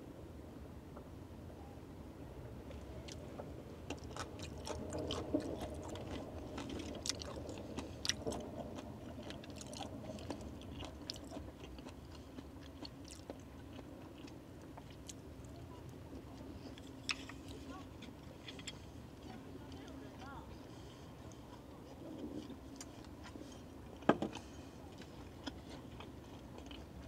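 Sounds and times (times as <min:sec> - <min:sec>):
faint steady hum: 0:00.0 - 0:27.0
chewing with wet crunches: 0:02.7 - 0:27.0.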